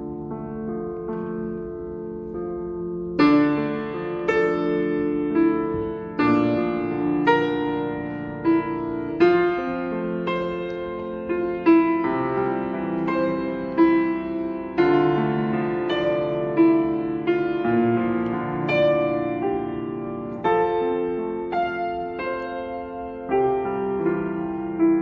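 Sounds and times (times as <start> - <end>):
slow solo piano: 0.0 - 25.0.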